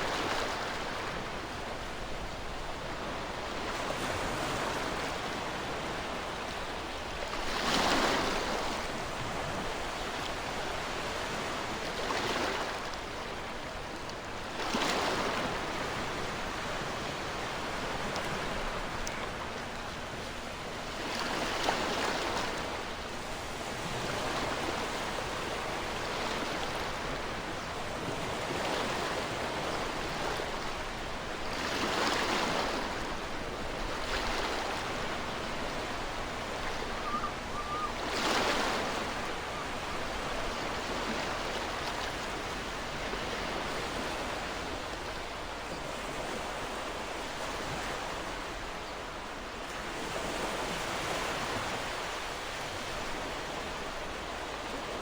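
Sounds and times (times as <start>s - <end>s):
ocean surf breaking on shore: 2.8s - 48.6s.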